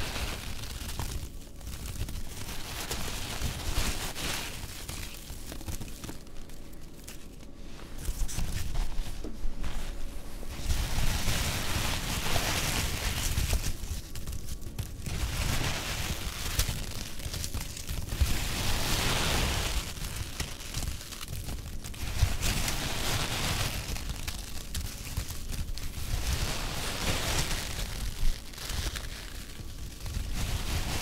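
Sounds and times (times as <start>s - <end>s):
foam packing peanuts rustling: 0.0s - 31.0s.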